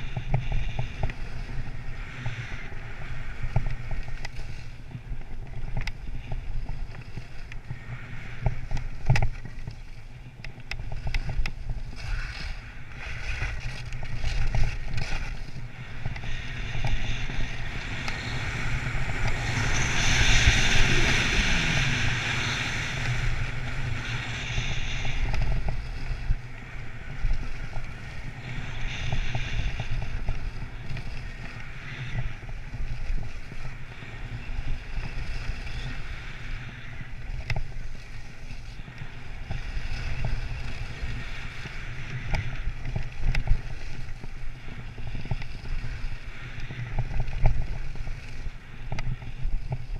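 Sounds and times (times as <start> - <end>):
skis scraping over snow: 0.0 - 49.9
wind on microphone: 0.0 - 49.9.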